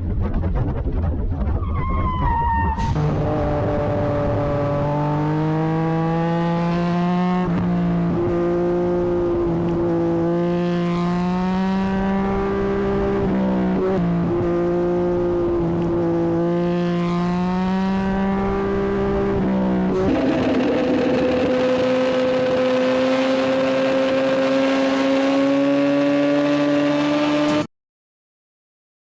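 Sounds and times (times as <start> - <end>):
wind and road noise: 0.0 - 27.7
motorcycle engine running: 2.8 - 27.6.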